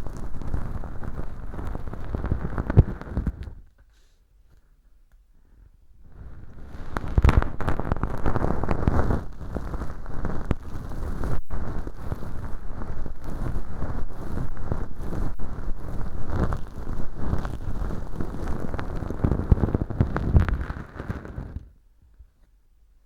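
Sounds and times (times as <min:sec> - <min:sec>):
ear pick scratching crackly rustle: 0:00.0 - 0:03.6, 0:06.0 - 0:21.8.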